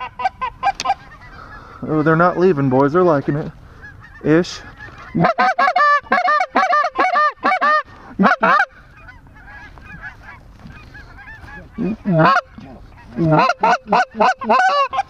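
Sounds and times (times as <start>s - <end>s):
goose call clucks: 0.0s - 2.6s, 3.4s - 15.0s
flock of geese calling: 0.0s - 15.0s.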